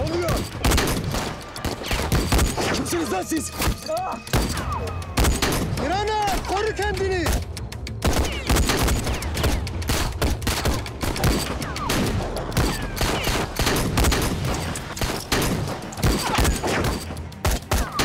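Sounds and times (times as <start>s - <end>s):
pistol shots: 0.3s - 2.9s, 3.6s - 5.8s, 8.0s - 18.0s.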